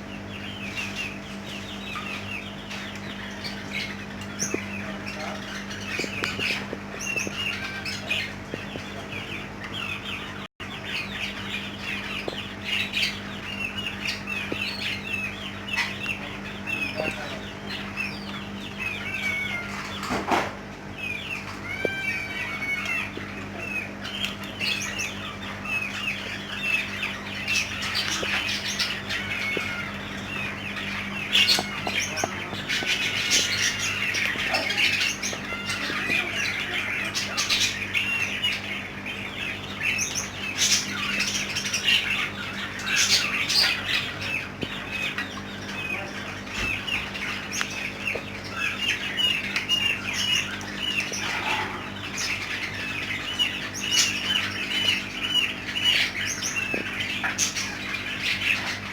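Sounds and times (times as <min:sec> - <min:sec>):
caged birds chirping and squawking: 0:00.0 - 0:58.9.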